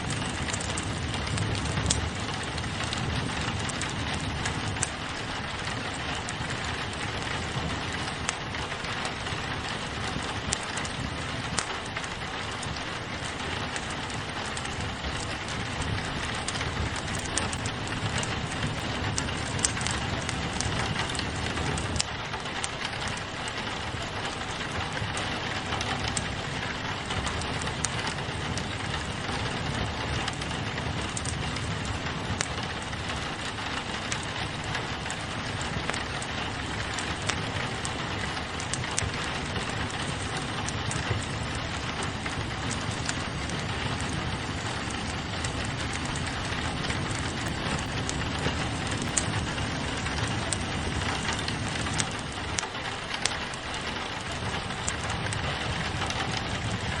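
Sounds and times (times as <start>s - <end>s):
rain on a window: 0.0s - 57.0s
wood fire crackling: 0.0s - 57.0s.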